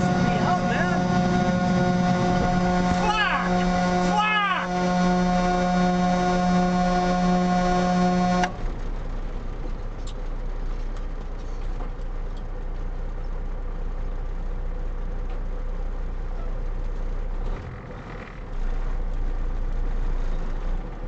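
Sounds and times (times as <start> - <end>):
road noise: 0.0 - 21.0
truck engine rumbling: 0.0 - 21.0.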